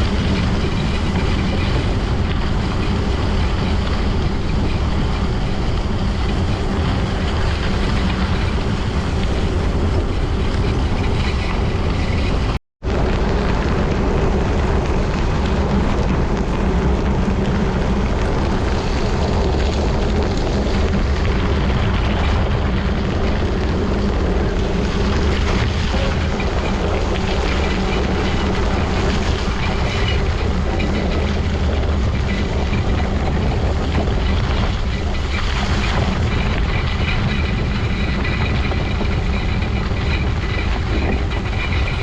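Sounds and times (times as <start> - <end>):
wind on microphone: 0.0 - 42.0.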